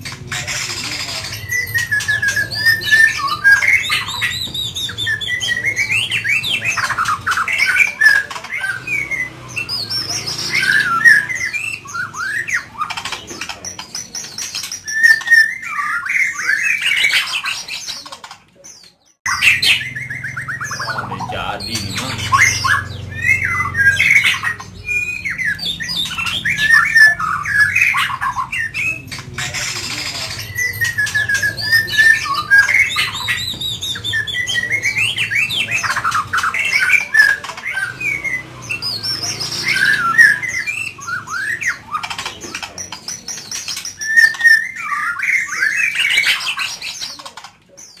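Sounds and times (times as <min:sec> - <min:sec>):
songbird whistling song: 0:00.0 - 0:48.0.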